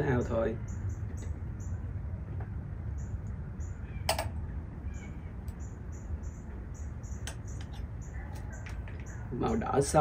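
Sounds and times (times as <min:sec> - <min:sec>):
small bird chirping: 0:00.0 - 0:02.0, 0:02.8 - 0:09.9.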